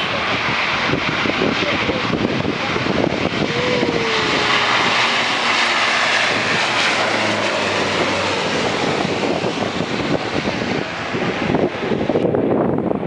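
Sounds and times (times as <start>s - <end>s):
low propeller hum: 0.0s - 13.0s
turboprop engines roaring: 0.0s - 13.0s.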